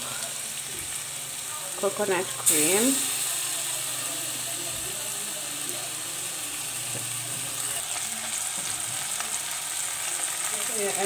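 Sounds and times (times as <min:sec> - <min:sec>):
mushrooms sizzling in a pot: 0:00.0 - 0:11.0.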